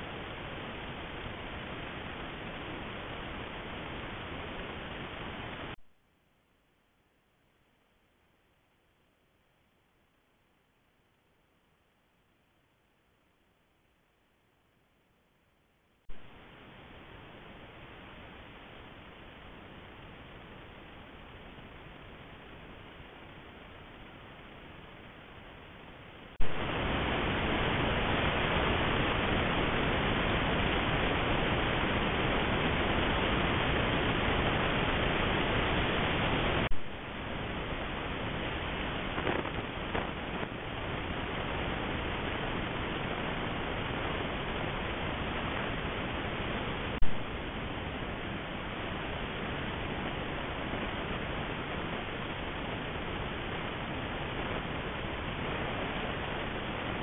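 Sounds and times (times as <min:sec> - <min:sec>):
steady microphone hiss: 0:00.0 - 0:57.0.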